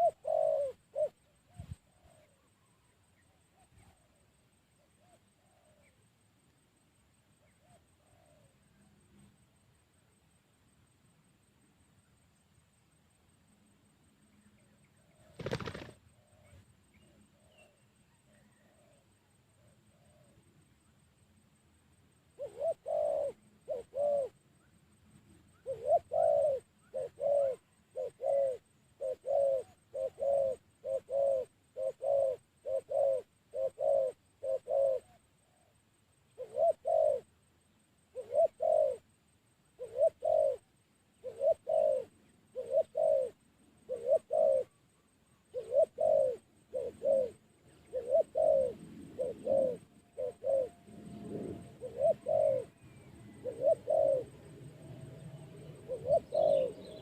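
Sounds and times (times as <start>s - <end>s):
dove cooing: 0.0s - 6.0s, 7.4s - 9.0s, 14.9s - 20.5s, 22.3s - 24.4s, 25.5s - 57.0s.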